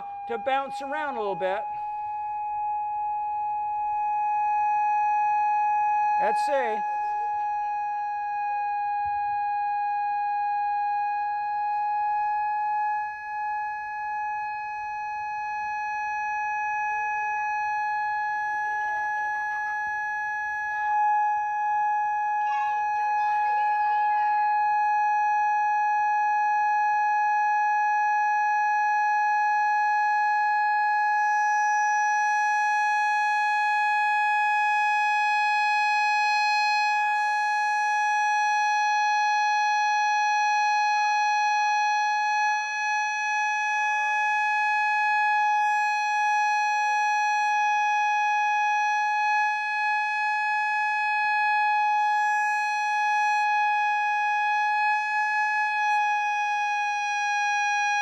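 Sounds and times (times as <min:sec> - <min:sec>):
steady tone from a loudspeaker: 0:00.0 - 0:58.0.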